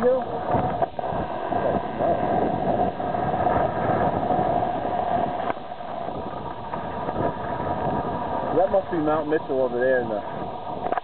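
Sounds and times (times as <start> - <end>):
steady hum: 0.0 - 11.0
wind buffeting microphone: 0.0 - 11.0.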